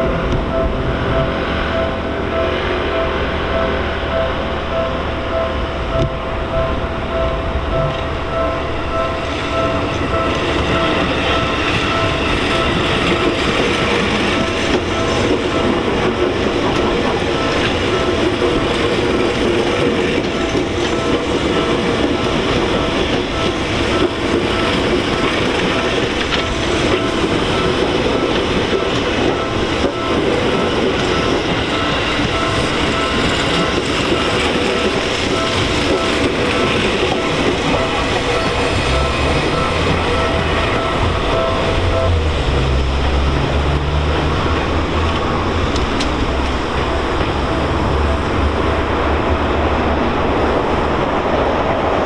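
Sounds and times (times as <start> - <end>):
crossing warning bell: 0.0 - 52.0
train wheels rumbling on rails: 0.0 - 52.0.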